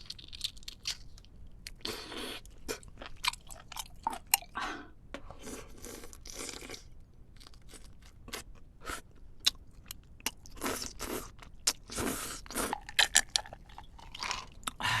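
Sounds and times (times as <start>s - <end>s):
person chewing crunchy food: 0.0s - 4.6s, 5.4s - 14.8s.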